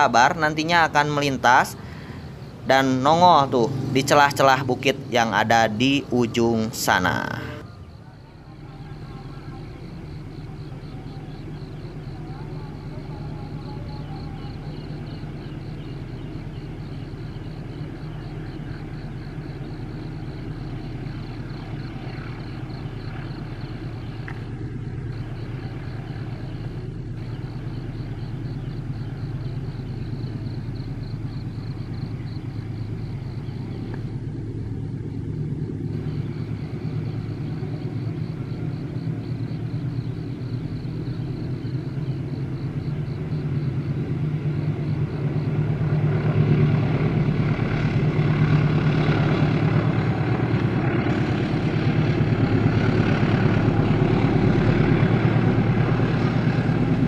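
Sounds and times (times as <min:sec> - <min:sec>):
locomotive engine droning: 0:00.0 - 0:57.0.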